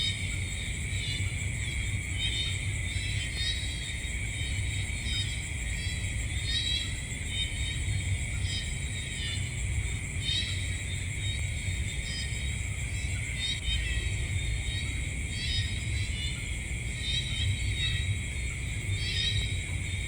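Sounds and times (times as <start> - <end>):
insect chirping calls: 0.0 - 20.0
insects trilling: 0.0 - 20.0.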